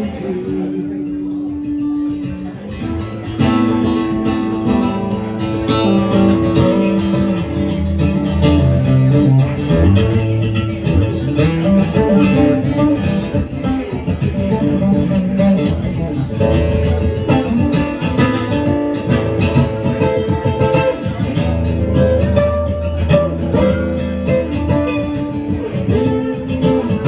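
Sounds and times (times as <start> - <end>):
bass guitar: 0.0 - 27.0
lead guitar: 0.0 - 27.0
live band playing instrumental: 0.0 - 27.0.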